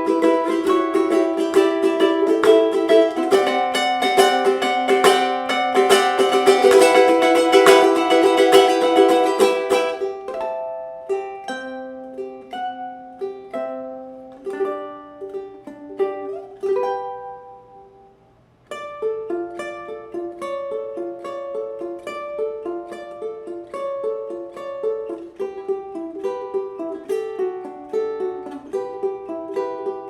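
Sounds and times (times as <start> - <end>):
ukulele plucked notes: 0.0 - 30.0
ukulele strummed chords: 0.0 - 30.0.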